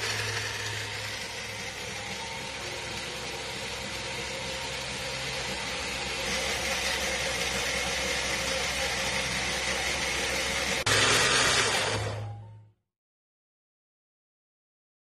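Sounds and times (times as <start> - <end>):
blender motor whirring: 0.0 - 12.5.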